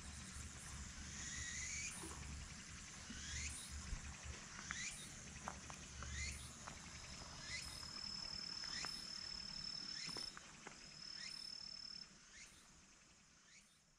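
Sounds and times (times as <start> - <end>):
insect high-pitched trill: 0.0 - 13.9.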